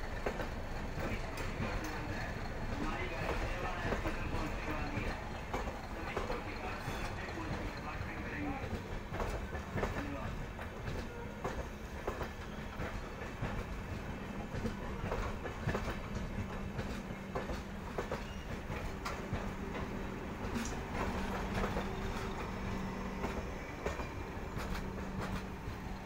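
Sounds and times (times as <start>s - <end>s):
wheels clattering over rail joints: 0.0s - 26.0s.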